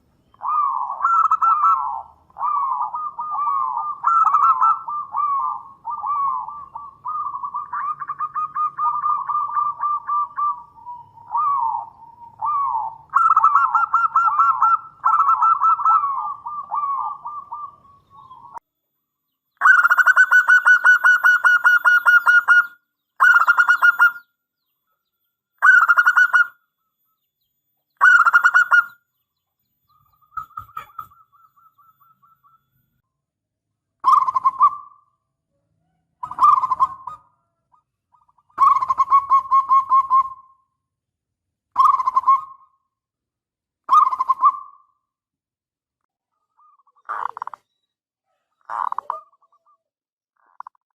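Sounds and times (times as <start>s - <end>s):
doves cooing in trilled phrases: 0.0s - 18.6s, 19.6s - 25.0s, 25.6s - 27.2s, 28.0s - 32.7s, 34.0s - 40.7s, 41.7s - 42.8s, 43.8s - 45.1s, 46.3s - 47.7s, 48.3s - 50.9s.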